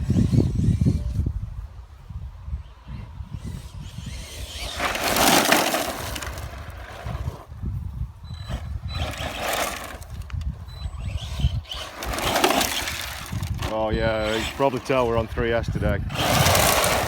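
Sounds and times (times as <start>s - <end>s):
wind buffeting microphone: 0.0s - 17.0s
toy truck tyres crunching on stones: 3.3s - 17.0s.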